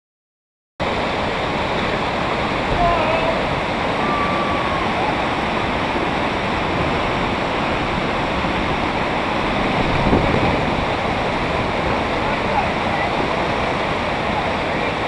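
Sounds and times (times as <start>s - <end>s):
water rushing over weir: 0.8s - 15.0s.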